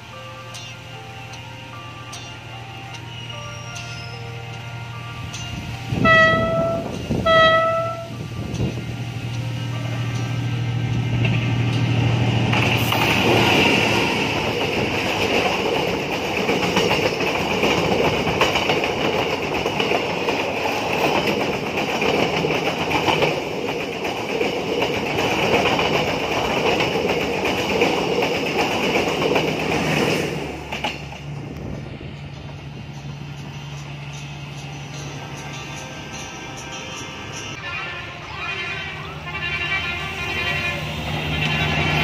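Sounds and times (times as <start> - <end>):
passenger train passing: 0.0 - 42.0.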